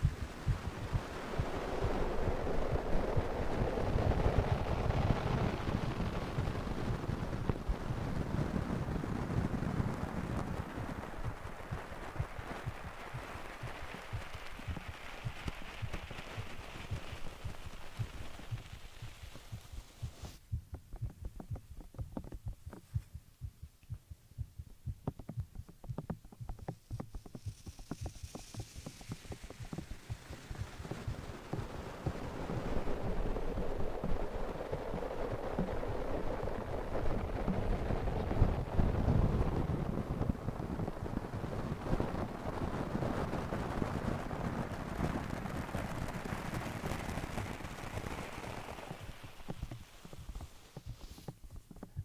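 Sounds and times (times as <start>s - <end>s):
heartbeat thumping: 0.0s - 42.6s, 49.4s - 52.0s
soft hiss: 0.0s - 52.0s.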